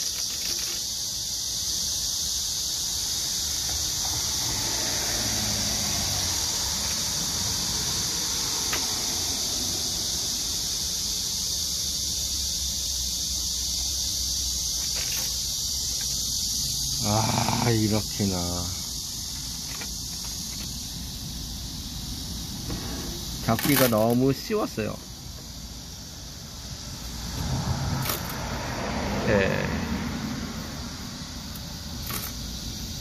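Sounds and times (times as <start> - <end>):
cicadas buzzing: 0.0 - 33.0
low road traffic rumble: 0.0 - 33.0.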